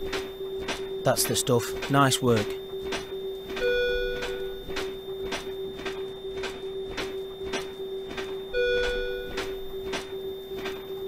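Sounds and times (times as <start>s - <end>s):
compression clicks: 0.0s - 11.0s
monitor flatline tone: 0.0s - 11.0s
electronic beep: 0.3s - 11.0s.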